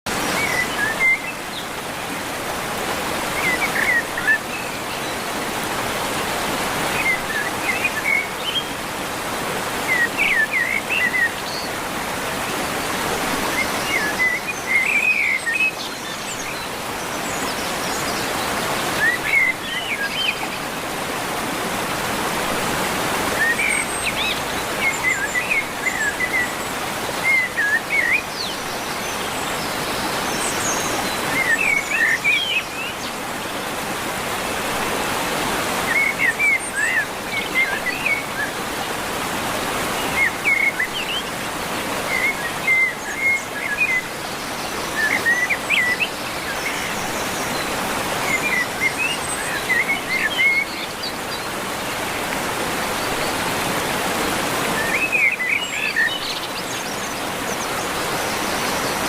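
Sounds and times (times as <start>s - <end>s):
forest birds chirping: 0.1s - 59.0s.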